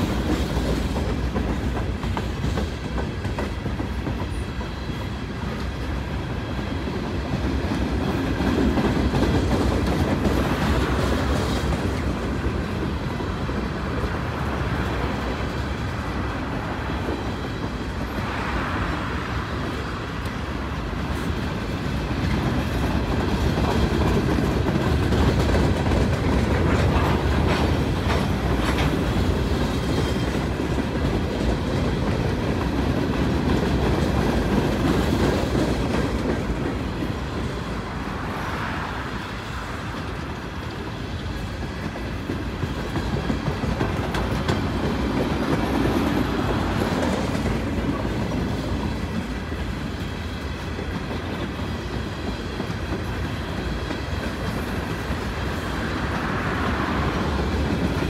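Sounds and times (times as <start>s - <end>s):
steel wheels clicking over rail joints: 0.0s - 18.4s, 19.4s - 37.9s, 39.1s - 58.0s
rumble of rolling freight cars: 0.0s - 58.0s.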